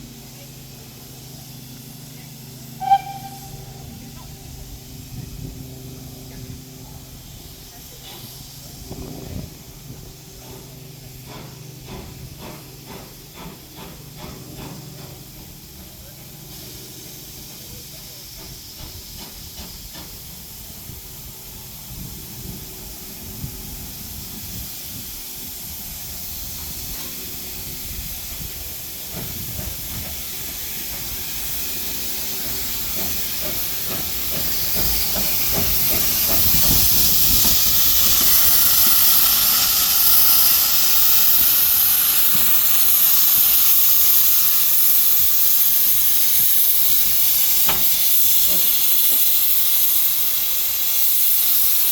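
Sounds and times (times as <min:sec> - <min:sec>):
steam locomotive hissing: 0:00.0 - 0:51.9.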